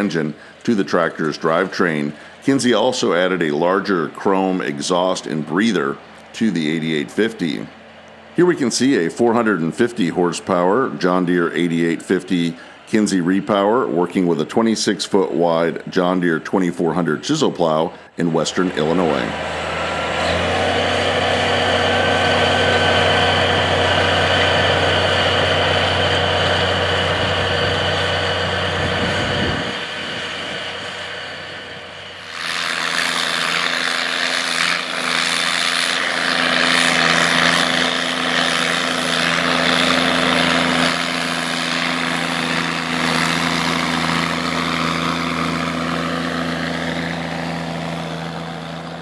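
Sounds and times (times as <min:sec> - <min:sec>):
diesel tractor running under load: 0:00.0 - 0:49.0.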